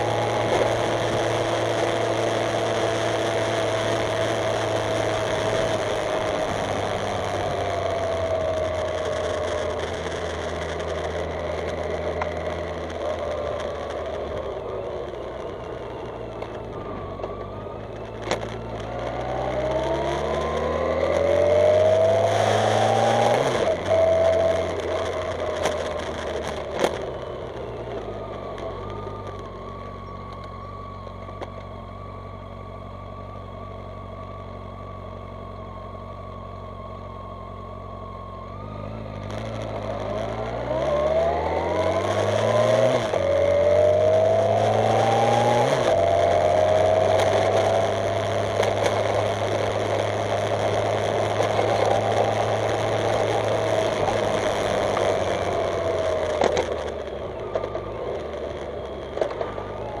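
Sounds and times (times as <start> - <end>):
motorcycle engine: 0.0 - 60.0.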